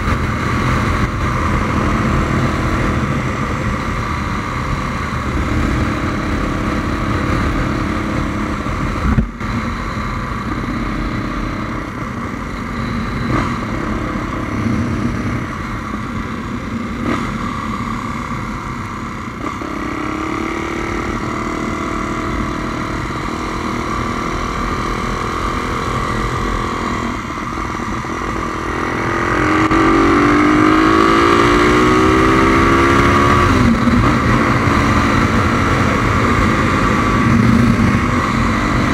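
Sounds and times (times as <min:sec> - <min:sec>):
wind noise on microphone: 0:00.0 - 0:20.4, 0:24.6 - 0:38.9
motorcycle engine: 0:00.0 - 0:38.9.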